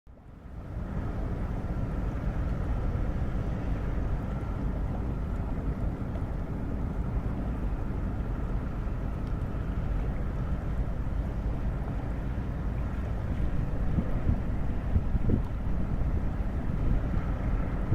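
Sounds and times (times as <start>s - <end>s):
faint steady whine: 0.1s - 17.9s
ship engine low rumble: 0.1s - 17.9s
wind buffeting microphone: 0.4s - 17.9s.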